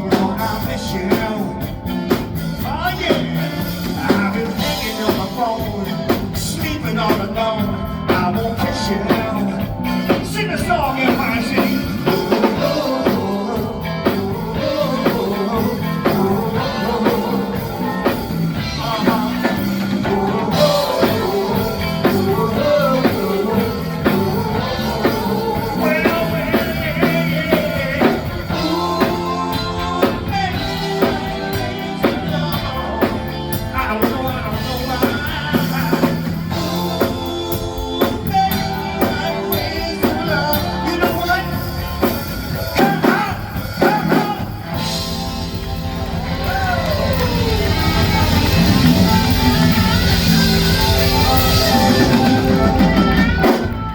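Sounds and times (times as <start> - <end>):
band instruments: 0.0 - 53.9
drum kit beat: 0.0 - 53.9
person singing: 0.0 - 53.9.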